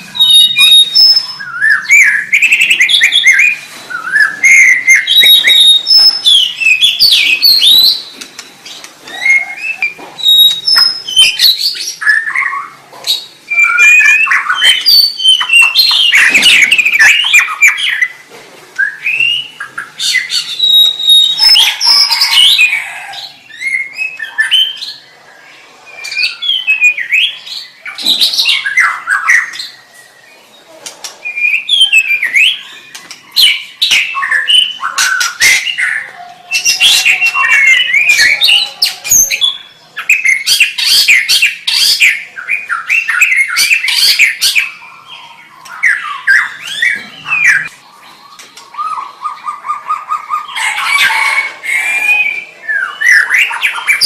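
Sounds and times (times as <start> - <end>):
songbird whistling song: 0.0 - 18.2, 18.8 - 25.1, 25.9 - 54.0.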